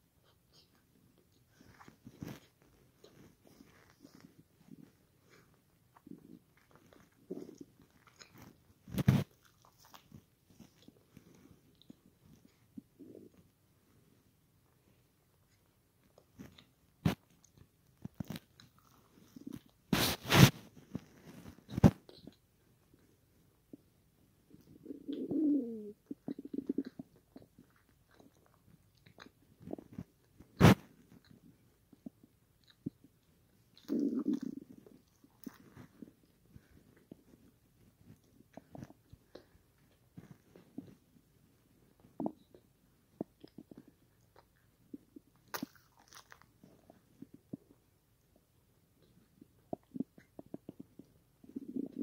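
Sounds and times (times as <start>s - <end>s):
person chewing food: 0.2s - 13.5s, 15.4s - 23.8s, 26.0s - 41.1s, 41.9s - 48.4s.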